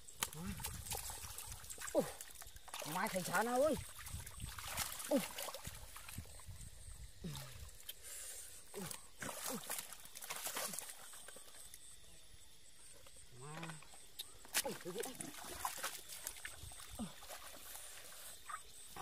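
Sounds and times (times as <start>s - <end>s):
small splashes: 0.0s - 6.6s, 8.7s - 12.0s, 13.4s - 19.0s
mud sloshing and squelching: 0.0s - 8.0s, 8.7s - 11.8s, 13.3s - 19.0s.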